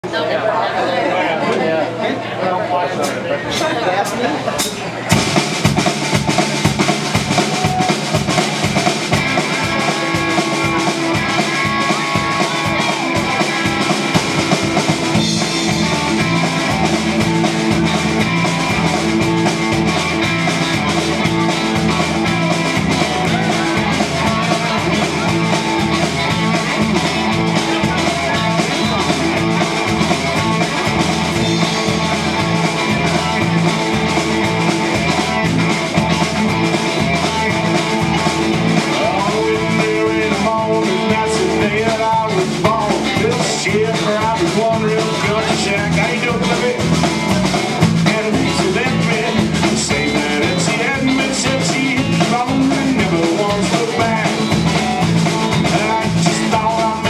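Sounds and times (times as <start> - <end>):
country-rock band playing: 0.0 - 57.0
drum kit: 3.0 - 57.0
bass line: 5.1 - 57.0.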